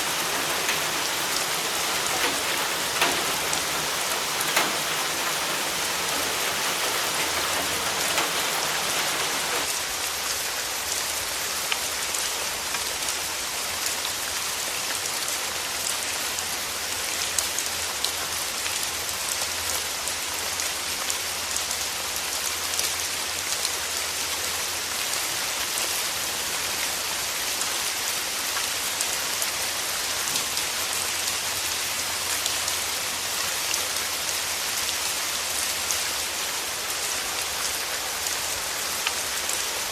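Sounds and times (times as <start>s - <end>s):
rain pattering: 0.0s - 9.9s, 17.6s - 39.9s.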